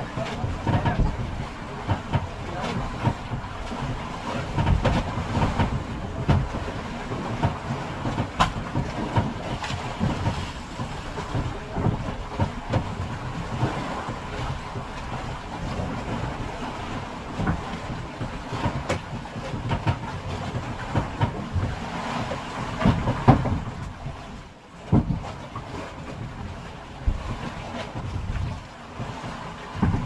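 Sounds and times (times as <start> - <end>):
boat engine rumble: 0.0 - 30.0
hull knocking on waves: 0.0 - 30.0
wind on microphone: 0.0 - 30.0.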